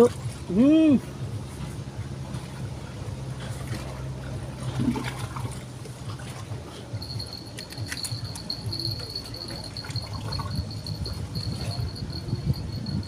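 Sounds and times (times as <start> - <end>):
river water trickling: 0.0 - 13.0.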